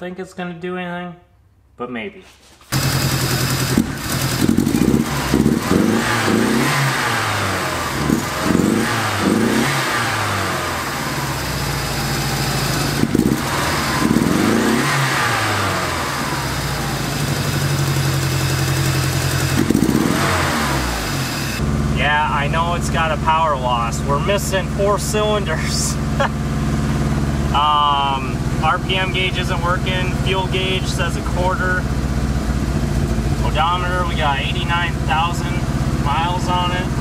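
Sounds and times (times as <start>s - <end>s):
car engine revving: 2.7s - 37.0s.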